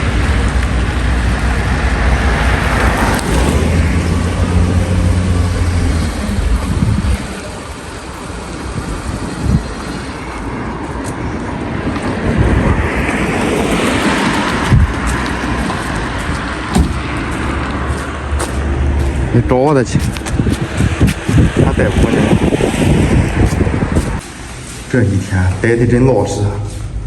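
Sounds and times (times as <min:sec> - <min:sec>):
wind on microphone: 0:00.0 - 0:24.2
road noise: 0:00.0 - 0:27.0
vehicle engine drone: 0:00.0 - 0:27.0.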